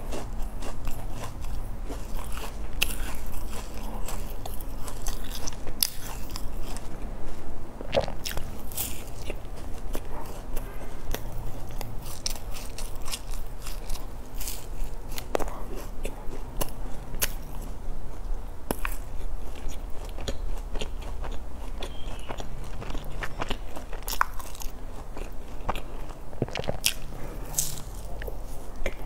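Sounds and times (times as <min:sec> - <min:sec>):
low steady hum: 0:00.0 - 0:29.0
person chewing with mouth clicks: 0:00.0 - 0:29.0.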